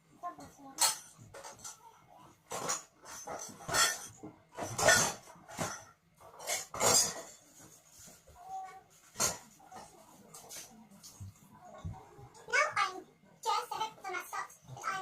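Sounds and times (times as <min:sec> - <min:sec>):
dishes and cutlery clattering: 0:00.2 - 0:12.6.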